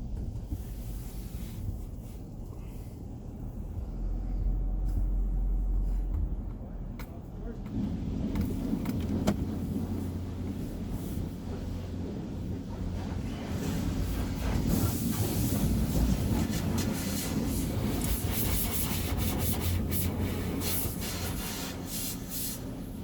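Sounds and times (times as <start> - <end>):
car wash conveyor rumble: 0.0 - 23.0.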